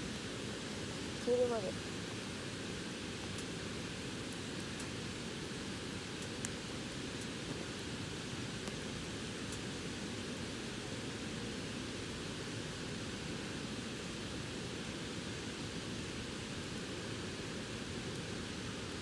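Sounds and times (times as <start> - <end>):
faint bonfire crackles: 0.0 - 19.0.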